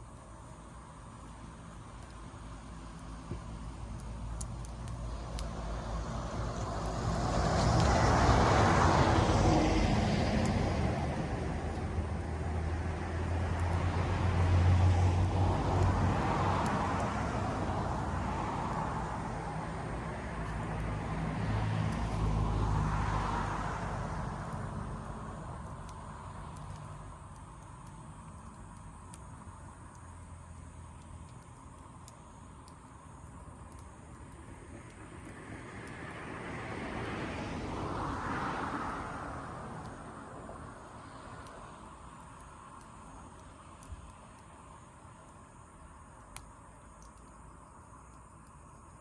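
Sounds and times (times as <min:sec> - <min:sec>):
campfire crackling: 0:00.0 - 0:49.0
vehicles passing: 0:01.0 - 0:48.8.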